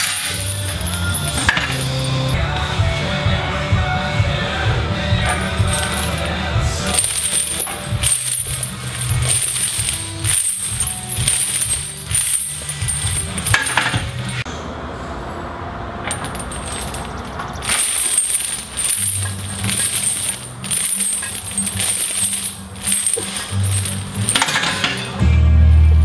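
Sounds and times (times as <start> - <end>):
steel chains clinking: 0.0 - 2.4, 5.1 - 14.5, 16.0 - 25.2
background music: 0.0 - 14.5, 17.6 - 26.0.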